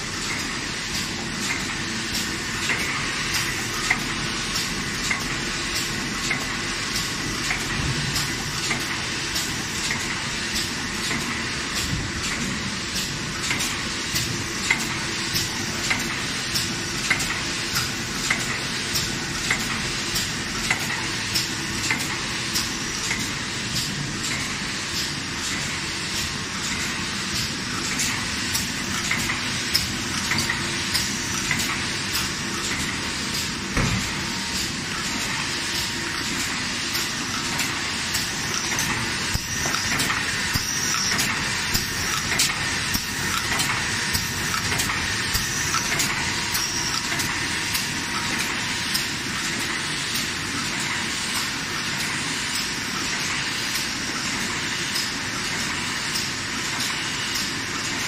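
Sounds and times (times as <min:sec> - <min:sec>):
printing machine clattering and clicking: 0:00.0 - 0:58.0.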